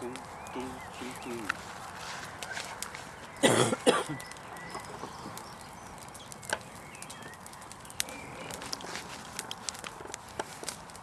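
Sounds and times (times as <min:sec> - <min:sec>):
bird chirps: 0:00.0 - 0:08.9.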